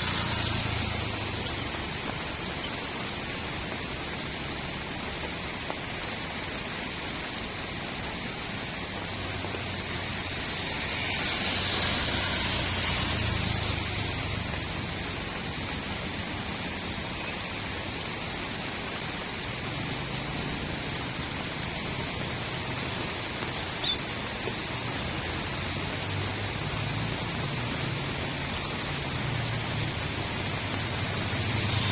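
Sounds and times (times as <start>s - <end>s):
rain falling on street: 0.0s - 31.9s.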